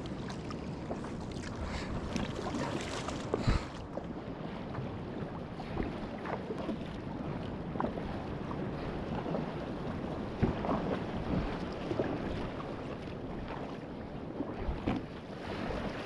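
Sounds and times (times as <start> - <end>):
water splashing around kayak: 0.0 - 16.0
wind noise on microphone: 0.0 - 16.0.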